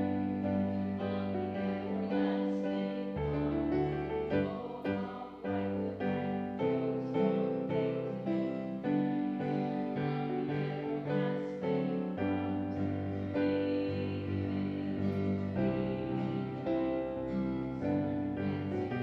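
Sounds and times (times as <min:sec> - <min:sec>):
keyboard playing slow chords: 0:00.0 - 0:19.0.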